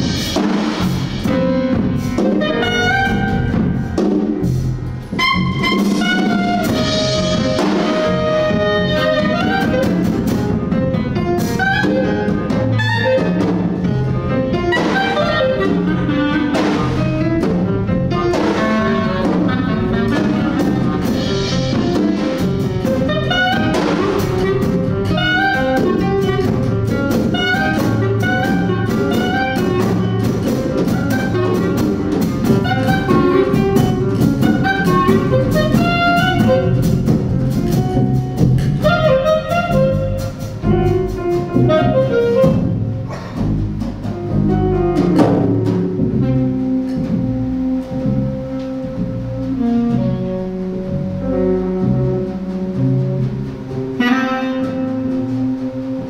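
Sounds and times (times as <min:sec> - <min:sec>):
double bass: 0:00.0 - 0:56.0
drum kit: 0:00.0 - 0:56.0
piano: 0:00.0 - 0:56.0
clarinet quick runs: 0:02.0 - 0:56.0.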